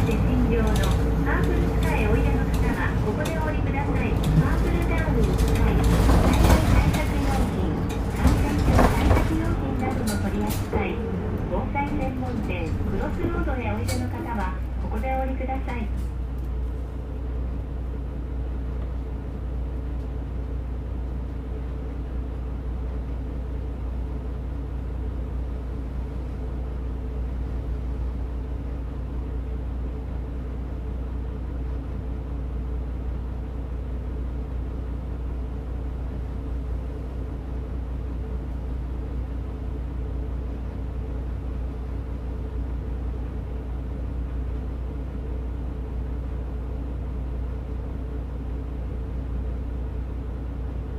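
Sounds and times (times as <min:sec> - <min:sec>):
bus engine drone: 0:00.0 - 0:50.9
road rumble: 0:00.0 - 0:50.9.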